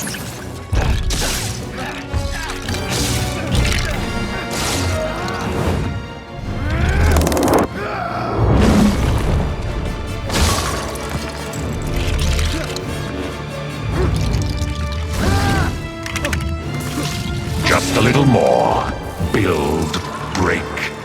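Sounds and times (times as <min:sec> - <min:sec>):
dramatic film score: 0:00.0 - 0:21.0.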